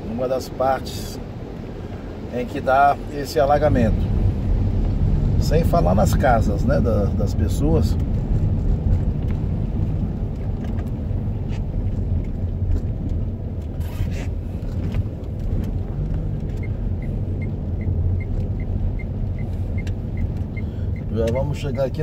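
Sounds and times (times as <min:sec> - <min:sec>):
car engine and road rumble: 0:00.0 - 0:22.0
tyres on wet asphalt: 0:00.0 - 0:22.0
turn signal ticking: 0:03.6 - 0:22.0.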